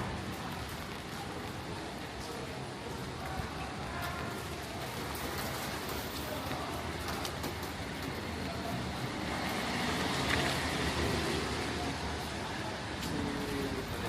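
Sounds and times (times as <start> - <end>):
vehicles passing on wet roads: 0.0 - 14.0.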